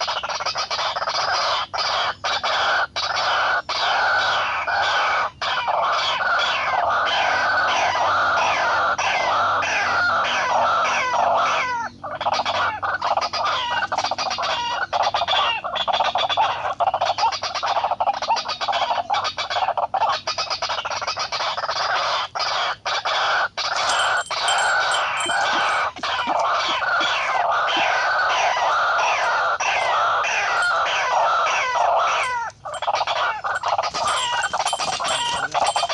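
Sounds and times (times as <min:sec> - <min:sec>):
waterhens calling: 0:00.0 - 0:35.9.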